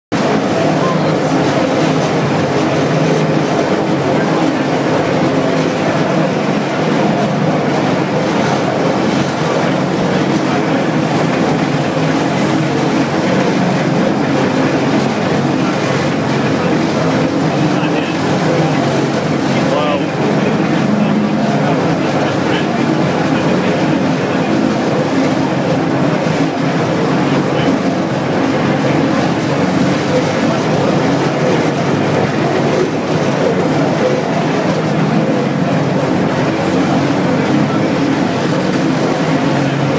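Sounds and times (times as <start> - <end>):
construction hoist running: 0.2 - 39.9.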